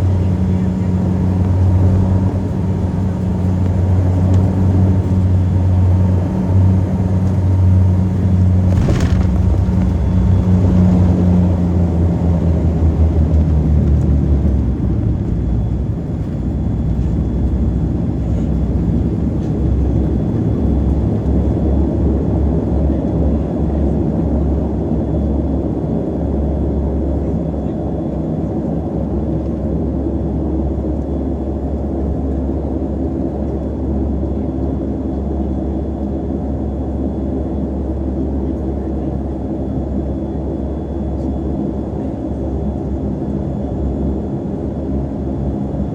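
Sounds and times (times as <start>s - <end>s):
turboprop engines droning: 0.0s - 45.9s.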